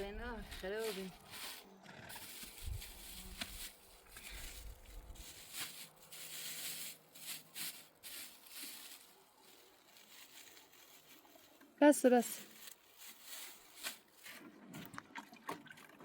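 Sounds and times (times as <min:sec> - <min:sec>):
faint rustling and scuffing: 0:00.0 - 0:14.5.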